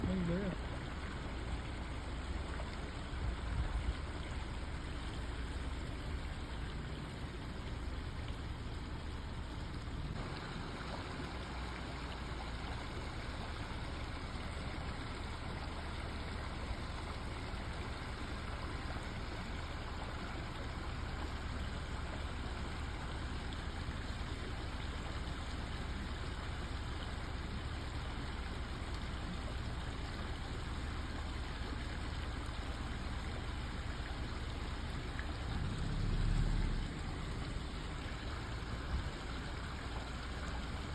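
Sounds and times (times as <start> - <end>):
flowing creek water: 0.0 - 40.9.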